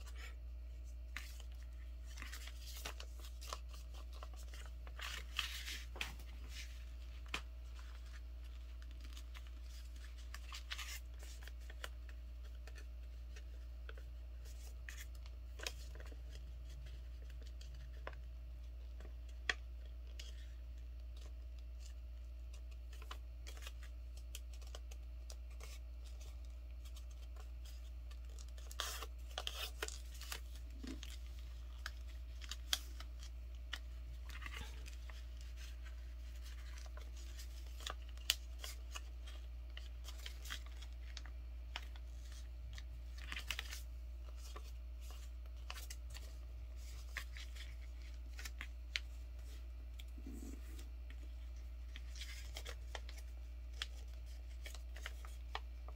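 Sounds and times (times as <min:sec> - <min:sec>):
paper crinkling and rustling: 0:00.0 - 0:55.9.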